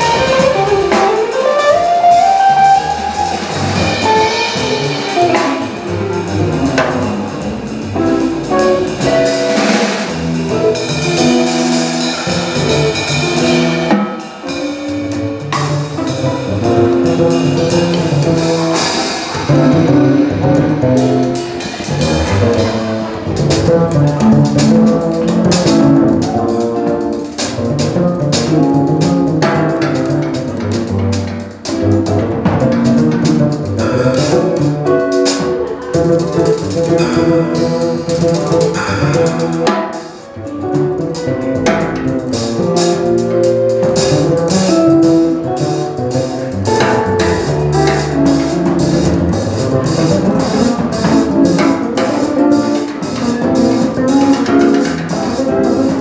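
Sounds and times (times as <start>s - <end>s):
drum and cymbal strokes: 0.0s - 56.0s
jazz trio playing: 0.0s - 56.0s.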